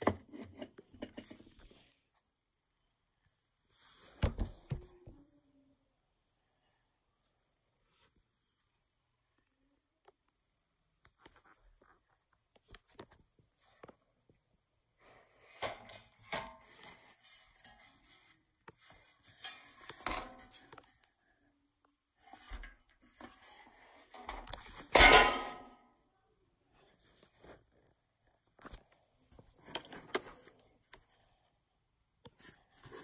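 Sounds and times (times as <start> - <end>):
rustling and handling of phone: 0.0 - 2.4, 3.7 - 5.2, 7.2 - 25.5, 26.7 - 33.0.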